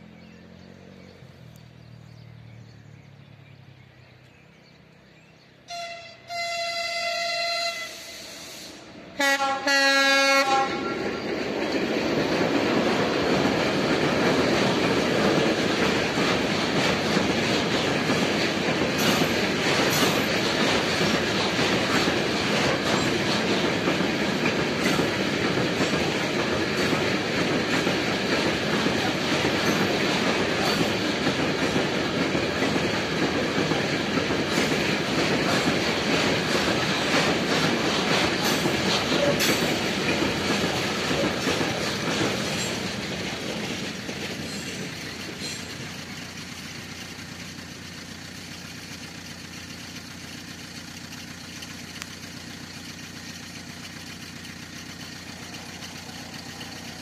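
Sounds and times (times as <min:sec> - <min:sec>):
freight train rumbling past: 0:00.0 - 0:57.0
wheel clicks on rail: 0:11.1 - 0:57.0.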